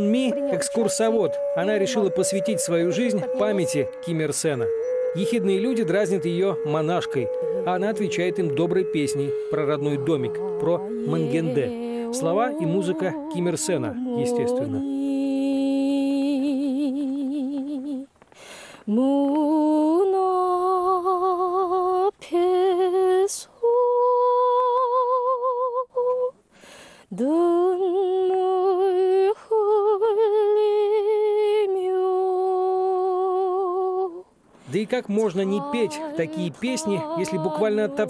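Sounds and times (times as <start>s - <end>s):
woman singing unaccompanied: 0.0s - 18.2s, 18.8s - 26.4s, 27.1s - 34.4s, 35.0s - 38.0s.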